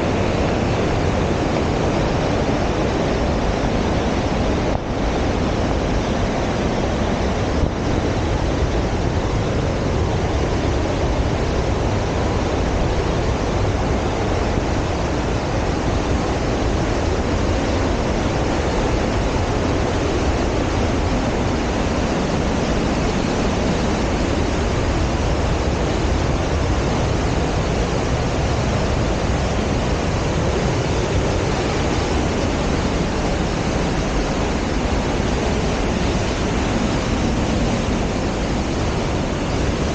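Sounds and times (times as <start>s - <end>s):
creek and waterfall rushing: 0.0s - 39.9s.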